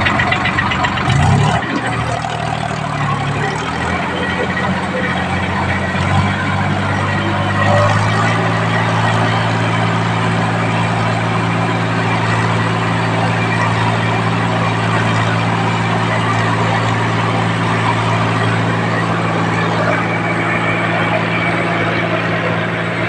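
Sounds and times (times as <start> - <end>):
tractor diesel engine droning: 0.0 - 23.0.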